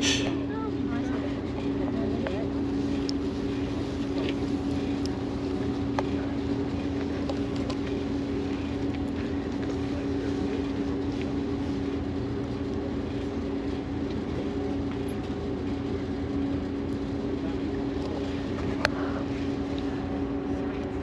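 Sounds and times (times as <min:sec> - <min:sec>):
boat engines droning: 0:00.0 - 0:21.0.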